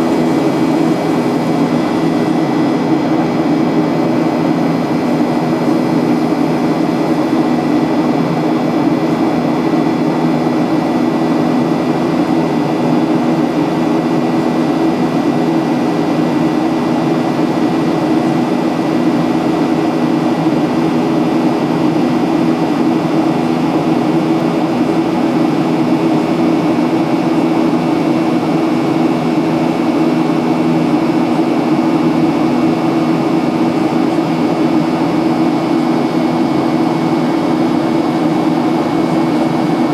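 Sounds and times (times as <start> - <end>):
airplane cabin noise: 0.0 - 39.9.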